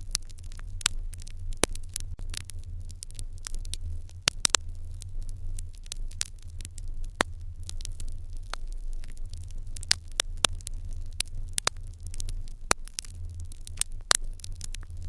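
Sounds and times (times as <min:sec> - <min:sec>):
fire crackling and popping: 0:00.0 - 0:15.0
low steady hum: 0:00.0 - 0:15.0.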